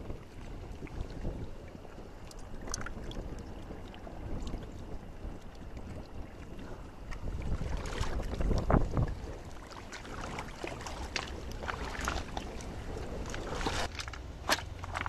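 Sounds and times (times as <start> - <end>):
wind rumbling on microphone: 0.0 - 15.0
water lapping among rocks: 0.1 - 15.0.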